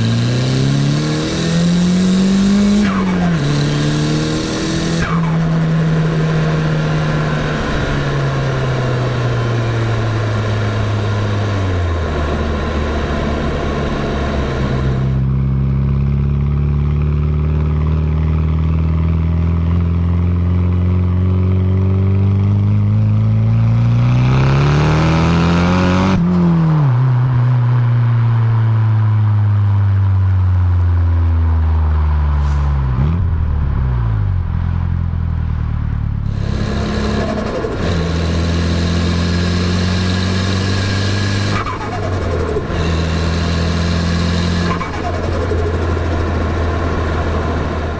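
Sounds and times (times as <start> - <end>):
car engine revving: 0.0 - 27.9, 32.4 - 47.9.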